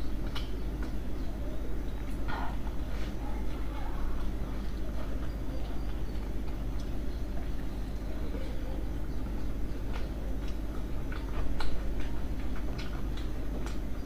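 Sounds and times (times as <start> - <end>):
chewing soft dumplings: 0.0 - 14.0.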